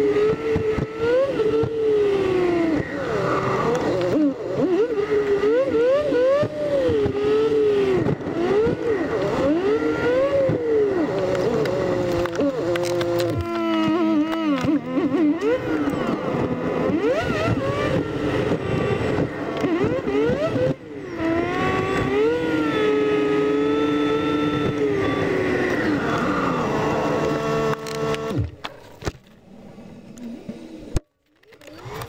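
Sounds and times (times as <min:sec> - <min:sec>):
sped-up car engine: 0:00.0 - 0:31.0.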